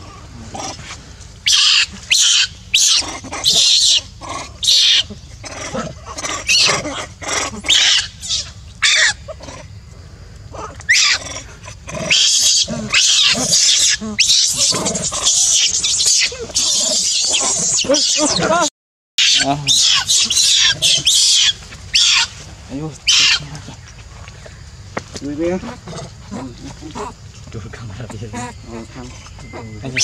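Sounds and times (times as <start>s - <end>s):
baby monkeys screaming: 1.4s - 9.7s, 10.5s - 23.8s, 25.4s - 27.2s, 28.0s - 30.0s.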